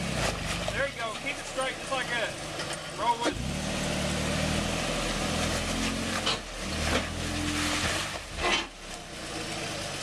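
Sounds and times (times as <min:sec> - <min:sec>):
truck engine at low revs: 0:00.0 - 0:10.0.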